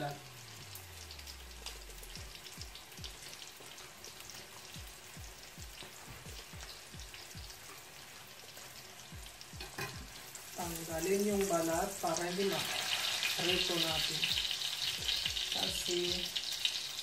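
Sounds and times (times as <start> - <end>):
omelette sizzling in oil: 0.0 - 17.0.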